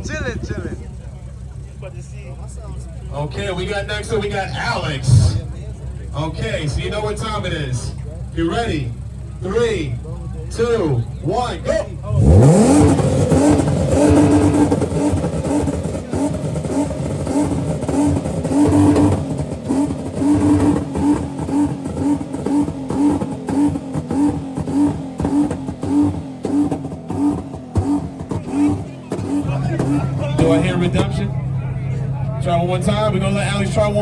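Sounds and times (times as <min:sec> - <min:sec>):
car engine revving hard: 0:00.0 - 0:34.0.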